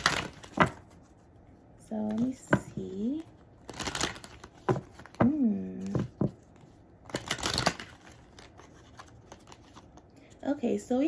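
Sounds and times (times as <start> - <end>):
cards being shuffled: 0.0 - 1.2, 2.0 - 10.1.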